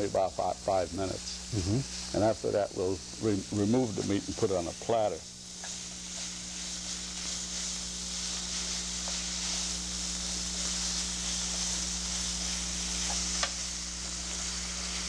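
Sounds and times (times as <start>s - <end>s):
low electrical hum: 0.0s - 15.0s
meat sizzling in a frying pan: 0.0s - 15.0s.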